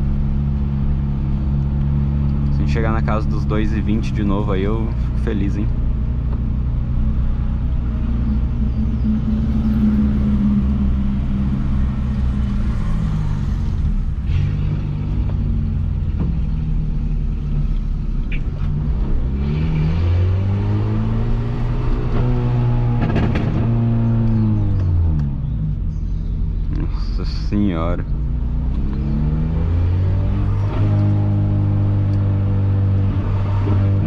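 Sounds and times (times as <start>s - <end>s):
car engine droning through exhaust: 0.0s - 34.0s.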